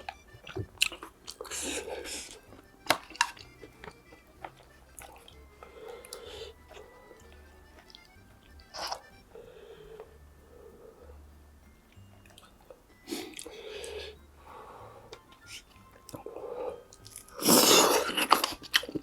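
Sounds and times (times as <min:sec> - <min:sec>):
person chewing food: 0:00.0 - 0:11.2, 0:11.9 - 0:19.0
soft background music: 0:00.0 - 0:19.0.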